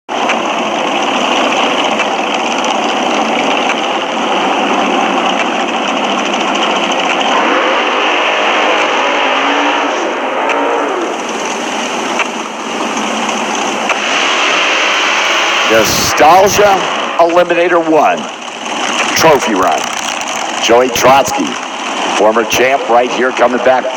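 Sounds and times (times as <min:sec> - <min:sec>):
race engine noise: 0:00.1 - 0:23.9.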